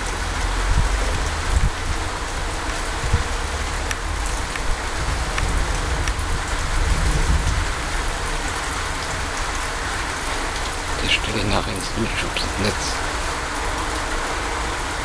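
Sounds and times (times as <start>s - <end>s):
rain hissing with drop hits: 0.0s - 15.0s.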